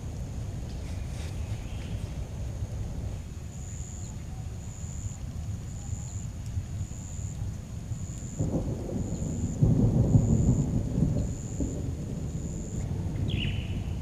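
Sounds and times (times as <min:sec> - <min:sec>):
heavy rain: 0:00.0 - 0:14.0
thunder rumbling: 0:00.0 - 0:14.0.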